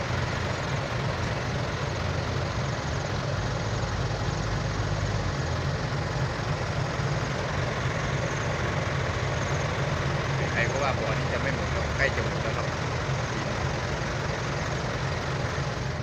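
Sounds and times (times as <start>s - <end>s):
heavy engine humming: 0.0s - 16.0s.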